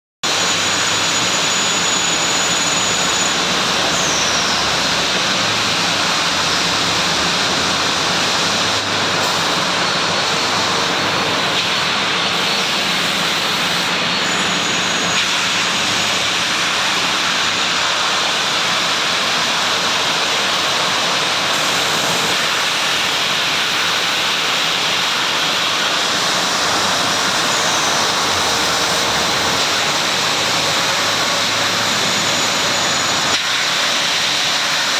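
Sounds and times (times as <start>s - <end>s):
sanding machine rushing noise: 0.3s - 34.9s.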